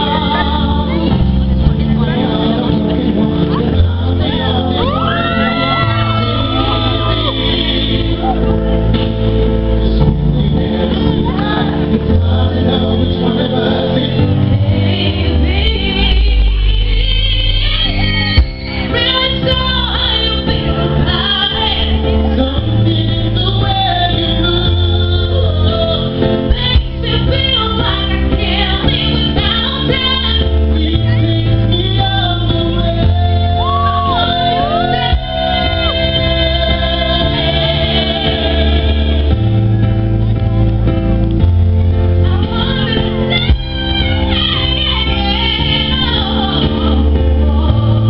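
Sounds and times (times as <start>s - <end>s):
woman singing pop ballad: 0.0s - 9.0s, 9.8s - 39.5s, 42.2s - 48.0s
steady low bass: 0.0s - 48.0s.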